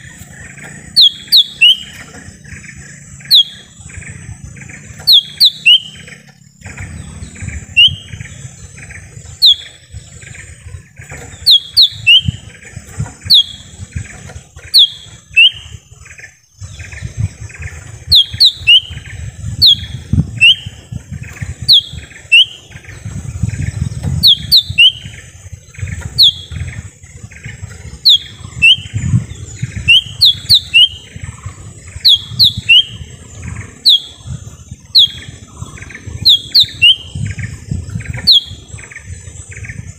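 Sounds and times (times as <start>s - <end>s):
bird calling sharp notes: 0.0s - 16.5s, 17.5s - 23.1s, 23.7s - 39.9s
low rumble: 0.0s - 39.9s
soft bird chattering: 0.0s - 39.9s.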